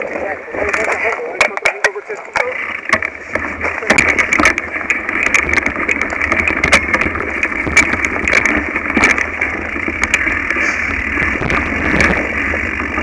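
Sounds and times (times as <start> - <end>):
mountain bike rattling and rumbling: 0.0 - 13.0
bike knocks and clatters: 0.7 - 13.0.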